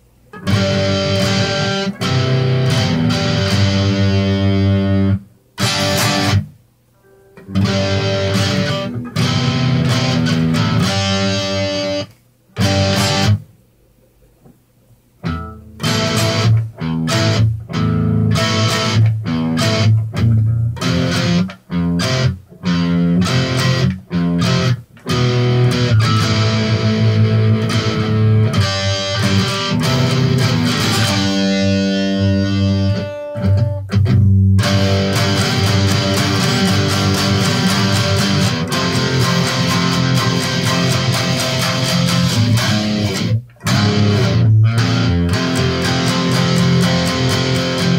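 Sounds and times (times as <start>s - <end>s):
electric guitar strumming chords: 0.3s - 13.5s, 15.2s - 47.9s.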